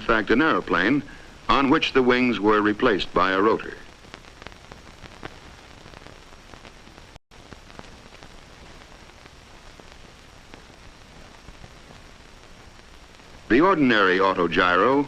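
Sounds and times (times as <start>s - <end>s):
old film soundtrack hiss and crackle: 0.0s - 15.0s.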